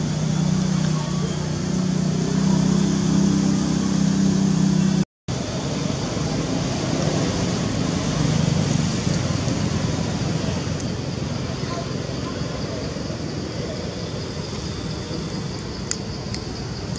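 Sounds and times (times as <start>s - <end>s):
rough steady noise: 0.0s - 16.9s.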